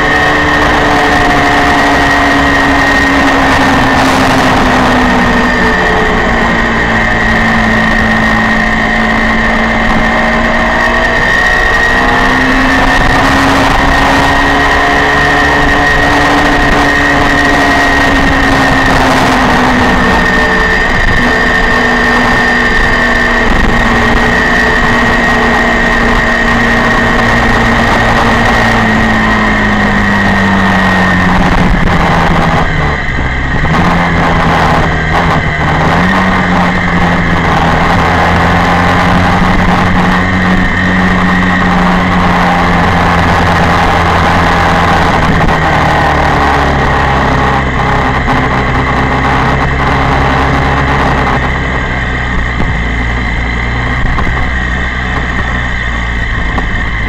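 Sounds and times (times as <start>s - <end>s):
motorcycle engine at part throttle: 0.0s - 57.0s
wind noise: 0.0s - 57.0s.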